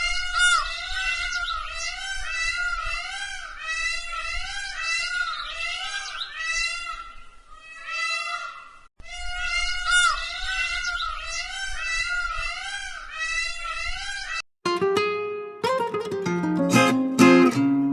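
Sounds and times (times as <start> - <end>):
meow-like bird calls: 0.0 - 14.4.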